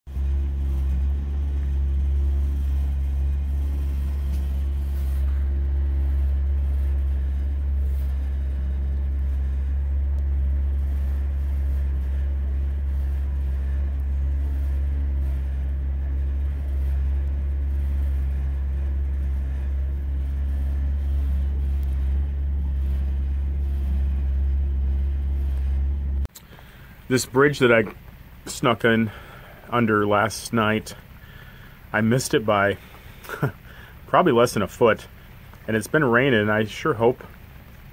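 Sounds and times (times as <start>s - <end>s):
boat engine drone: 0.1s - 37.9s.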